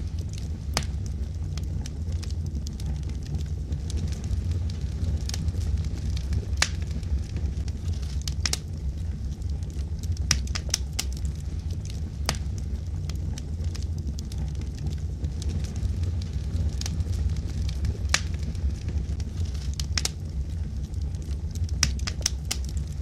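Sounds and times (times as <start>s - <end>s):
logs crackling and popping: 0.0s - 23.0s
low rumble of flames: 0.0s - 23.0s.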